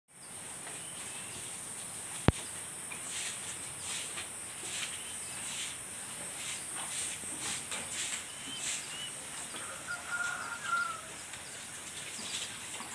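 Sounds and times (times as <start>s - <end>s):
faint scratchy rustles: 0.7s - 12.9s.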